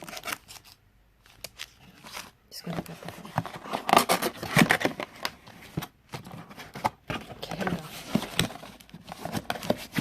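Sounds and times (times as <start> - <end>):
cardboard and paper packaging rustling: 0.0 - 10.0.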